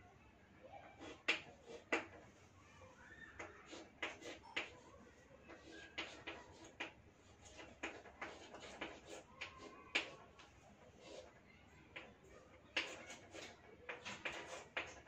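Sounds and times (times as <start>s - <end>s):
chalk tapping and scraping on chalkboard: 1.0s - 2.4s, 3.3s - 15.0s.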